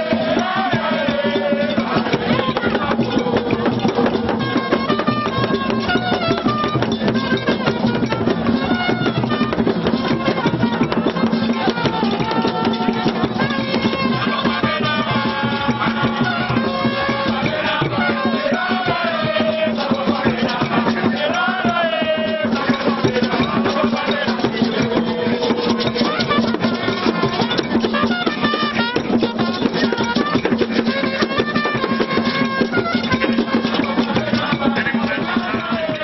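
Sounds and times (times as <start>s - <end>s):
fast drumming and percussion: 0.0s - 36.0s
voices singing: 0.0s - 36.0s.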